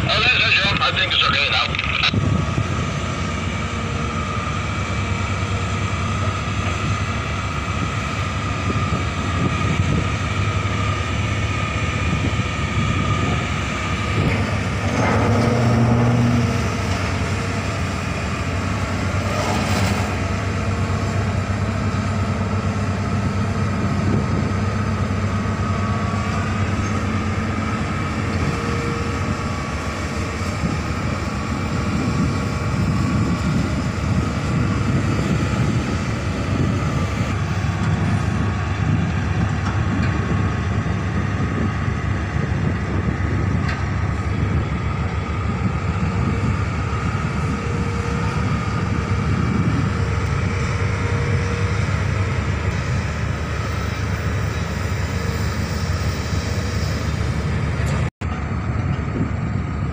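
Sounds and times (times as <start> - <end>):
diesel machinery droning: 0.0 - 59.9.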